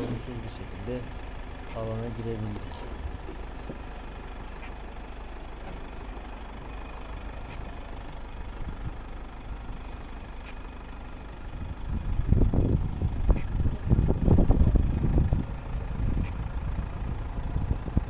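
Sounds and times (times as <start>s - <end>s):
vehicle driving on dirt road: 0.0s - 18.0s.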